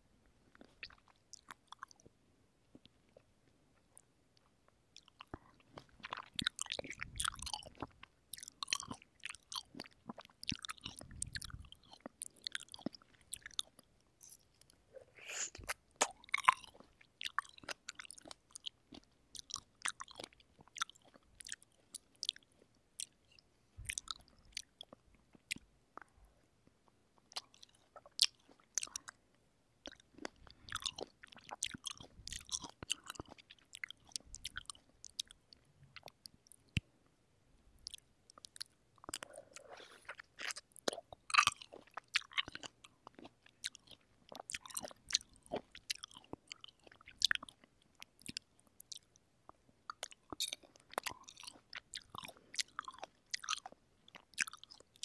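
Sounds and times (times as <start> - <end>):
wet chewing mouth sounds: 0.5 - 2.1, 4.9 - 26.2, 27.2 - 29.2, 29.8 - 36.8, 37.8 - 55.0.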